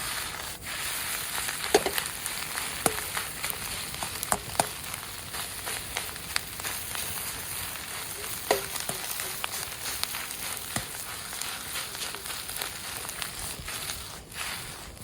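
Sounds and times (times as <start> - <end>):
rice sizzling in a pan: 0.0 - 15.0.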